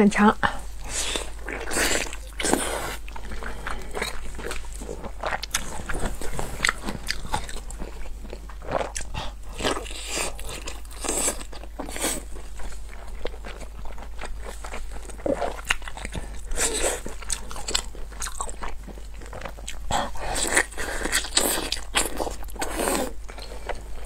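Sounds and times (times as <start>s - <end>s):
wet chewing mouth sounds: 0.4s - 24.0s.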